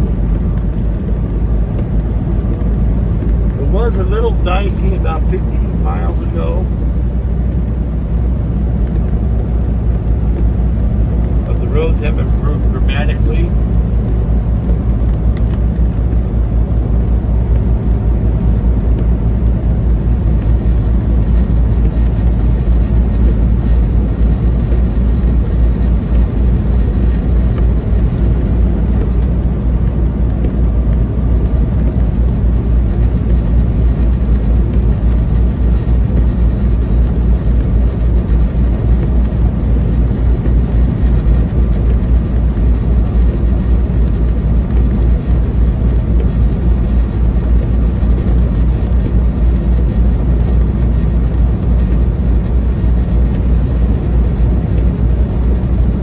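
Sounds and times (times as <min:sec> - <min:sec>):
diesel engine drone: 0:00.0 - 0:56.0
tyre and road noise: 0:00.0 - 0:56.0.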